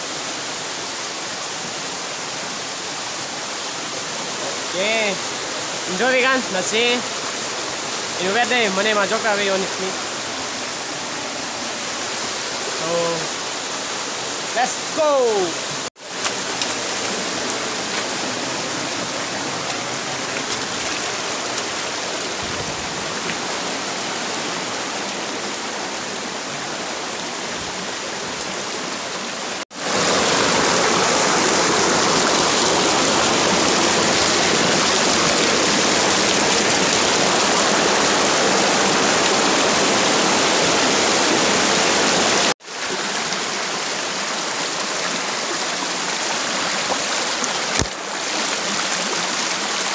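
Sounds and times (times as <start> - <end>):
stream rushing over boulders: 0.0 - 49.9.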